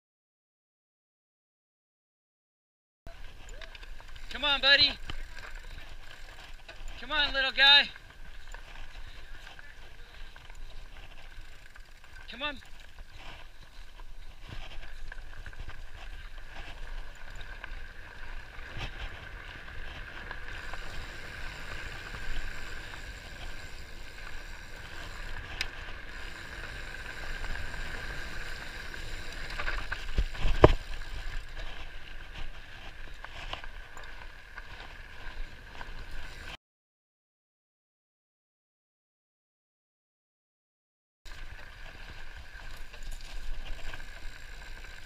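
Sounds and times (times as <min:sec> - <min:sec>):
bike tyres rolling over dirt: 0:03.1 - 0:36.6, 0:41.3 - 0:45.0.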